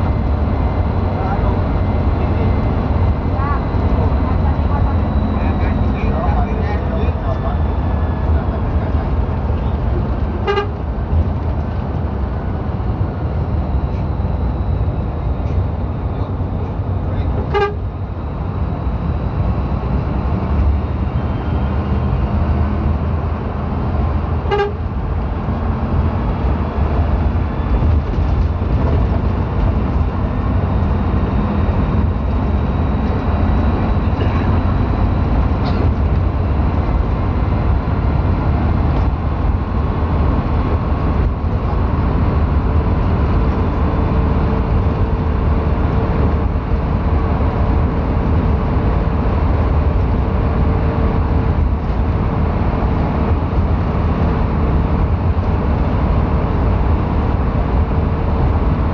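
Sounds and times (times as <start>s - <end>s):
vehicle road and wind noise: 0.0s - 58.9s.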